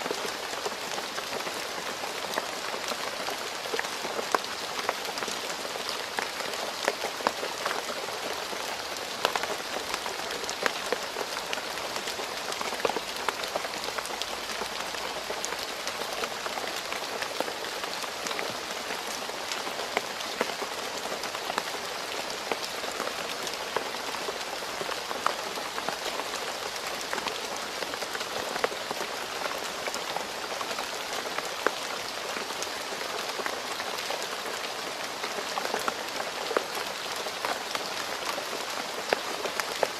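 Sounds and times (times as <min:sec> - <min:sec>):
rain falling on a road: 0:00.0 - 0:39.9.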